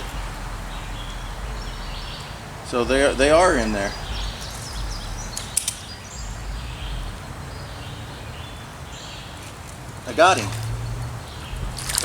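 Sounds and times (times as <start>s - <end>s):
faint bird chirps: 0.0s - 12.0s
wind rumble on microphone: 0.0s - 12.0s.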